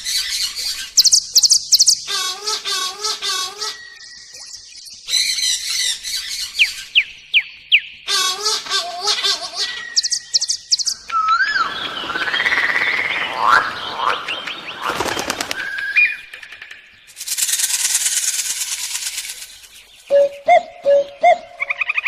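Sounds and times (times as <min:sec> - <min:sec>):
birds chirping and whistling: 0:00.0 - 0:22.0.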